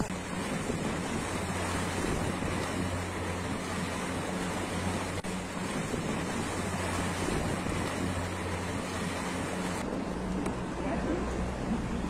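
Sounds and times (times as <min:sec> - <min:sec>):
wind on microphone: 0:00.0 - 0:10.8
motorboat engine running: 0:00.0 - 0:12.0
water rushing past: 0:00.0 - 0:12.0.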